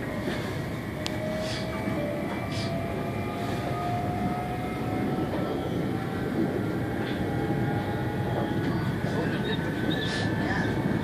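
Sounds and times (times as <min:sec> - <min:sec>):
train engine whine rising: 0:00.0 - 0:11.0
train wheels rumbling: 0:00.0 - 0:11.0.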